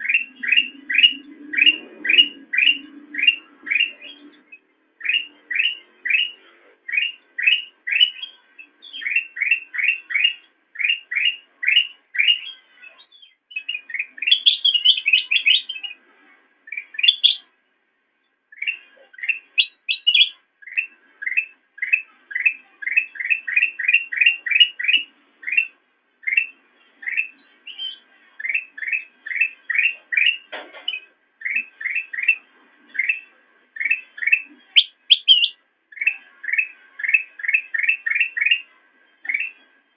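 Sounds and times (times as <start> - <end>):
bird singing whistled notes: 0.0 - 16.0, 16.7 - 17.5, 18.5 - 32.4, 33.0 - 39.6
high bird twittering: 0.0 - 16.0, 16.7 - 17.5, 18.5 - 39.7.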